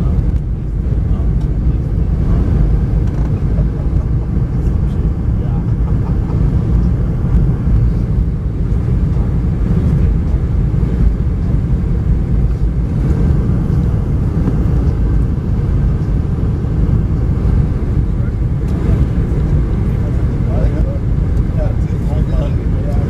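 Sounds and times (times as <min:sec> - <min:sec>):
airplane cabin rumble: 0:00.0 - 0:23.0
jet engines: 0:00.0 - 0:23.0.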